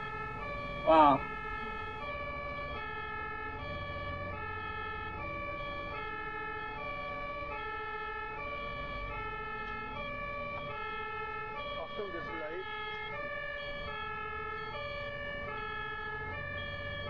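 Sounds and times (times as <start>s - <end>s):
ambulance two-tone siren: 0.0s - 17.0s
low road rumble: 0.0s - 17.0s.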